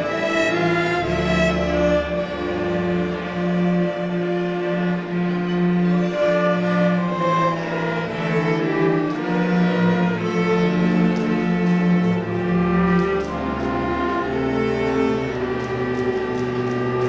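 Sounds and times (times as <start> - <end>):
string orchestra playing: 0.0 - 17.0.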